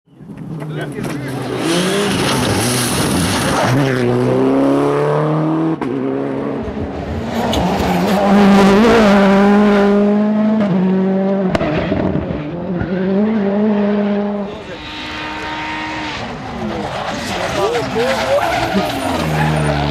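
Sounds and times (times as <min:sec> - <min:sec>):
rally car engines at high revs: 0:00.2 - 0:19.9.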